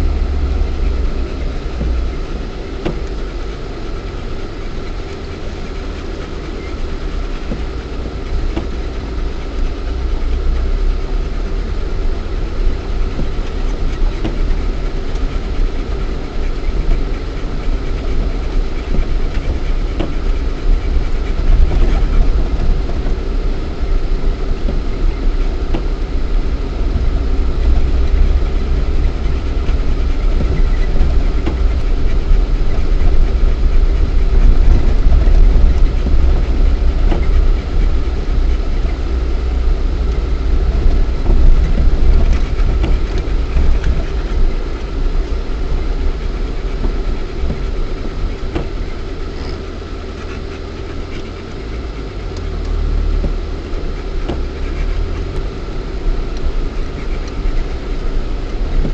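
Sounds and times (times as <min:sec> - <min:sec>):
car engine rumbling: 0:00.0 - 0:58.9.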